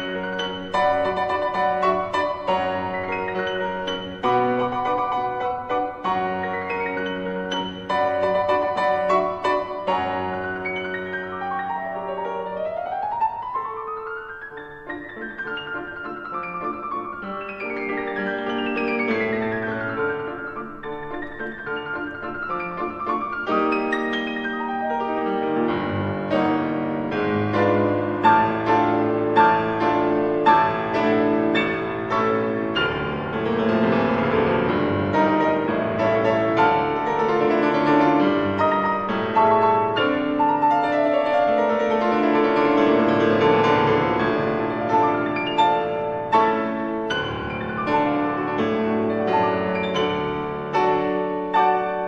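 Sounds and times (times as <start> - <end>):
solo piano classical music: 0.0 - 52.0.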